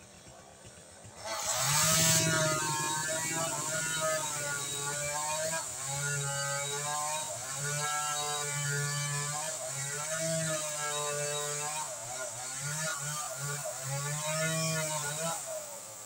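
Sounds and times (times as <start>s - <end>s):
chainsaw cutting: 0.0s - 16.0s.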